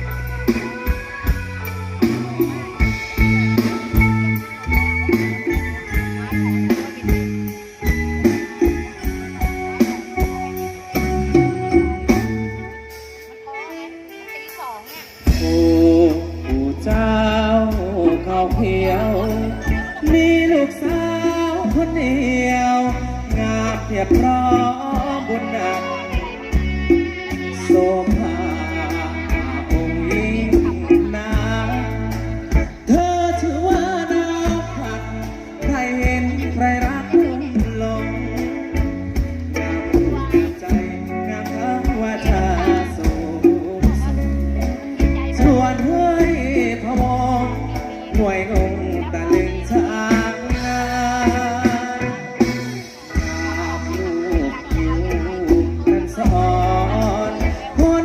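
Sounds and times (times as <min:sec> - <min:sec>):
bass line: 0:00.0 - 0:58.0
bending melodic lead: 0:00.0 - 0:58.0
steady drum beat: 0:00.0 - 0:58.0
sustained keyboard or guitar tones: 0:00.0 - 0:58.0.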